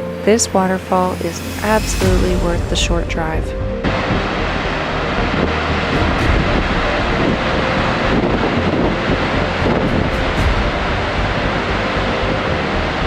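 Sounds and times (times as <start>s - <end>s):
waterfall roaring: 1.3s - 13.0s.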